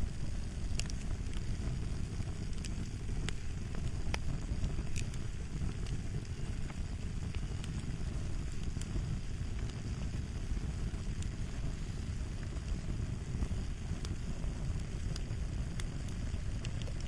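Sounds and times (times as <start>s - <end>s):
fire crackling: 0.0s - 17.0s
sharp pops and snaps: 0.2s - 11.8s, 12.5s - 17.0s.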